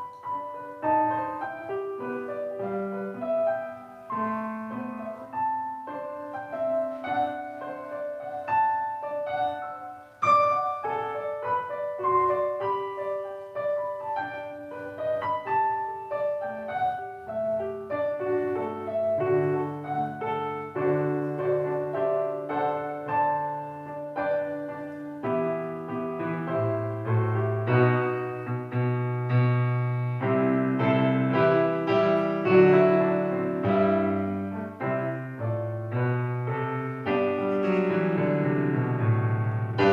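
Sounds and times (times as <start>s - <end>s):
gentle solo piano: 0.0s - 39.9s.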